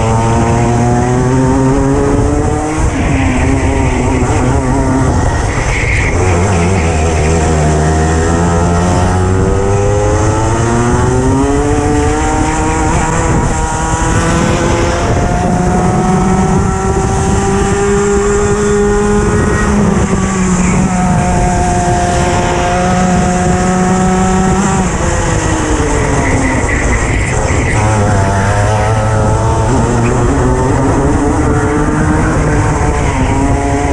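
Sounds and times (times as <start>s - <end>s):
kart engine at full throttle: 0.0s - 33.9s.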